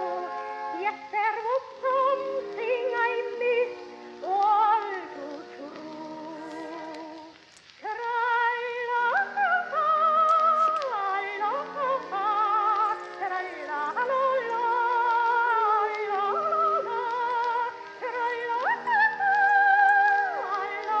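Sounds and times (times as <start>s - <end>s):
old recording of vibrato singing: 0.0s - 21.0s.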